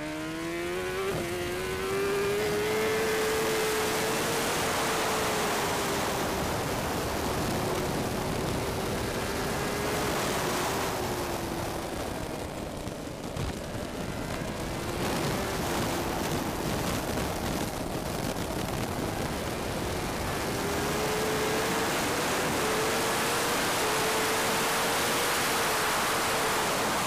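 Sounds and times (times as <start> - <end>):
motorcycle engine at speed: 0.0 - 27.0
heavy wind rush: 0.3 - 27.0.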